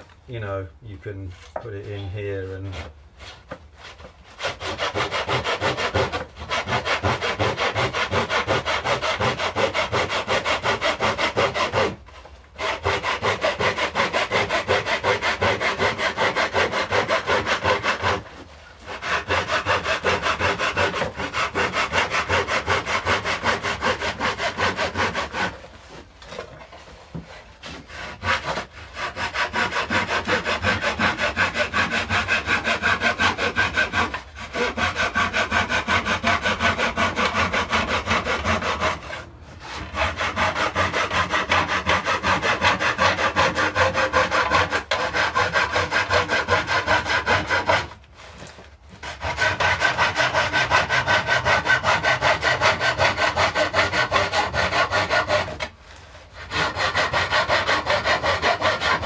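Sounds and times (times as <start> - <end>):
hand saw cutting wood: 0.0 - 59.0.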